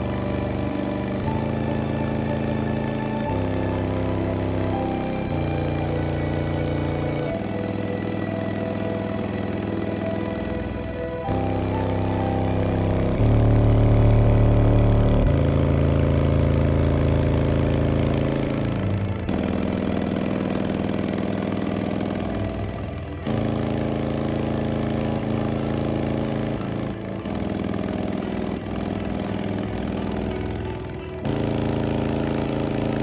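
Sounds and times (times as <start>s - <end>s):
subwoofer playing bass music: 0.0s - 33.0s.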